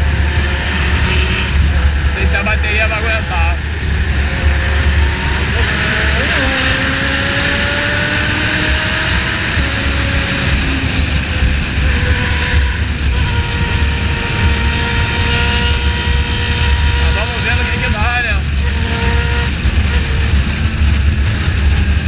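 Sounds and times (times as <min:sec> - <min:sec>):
heavy wind rush: 0:00.0 - 0:22.0
motorcycle engine riding: 0:00.0 - 0:22.0.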